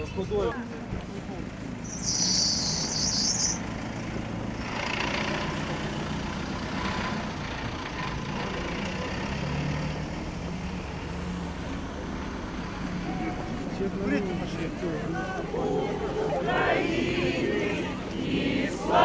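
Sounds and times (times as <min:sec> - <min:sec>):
faint road noise: 0:00.0 - 0:19.0
vehicle engines humming: 0:00.0 - 0:19.0.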